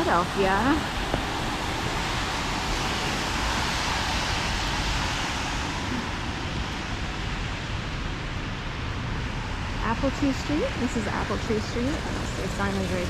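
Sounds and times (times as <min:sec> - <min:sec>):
traffic on wet pavement: 0:00.0 - 0:13.0.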